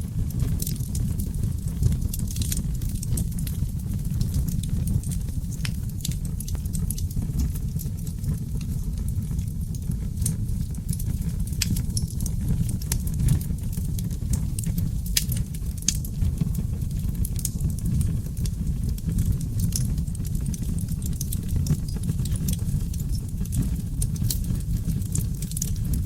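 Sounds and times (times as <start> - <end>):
fire crackling and popping: 0.0 - 26.0
fire roaring: 0.0 - 26.0.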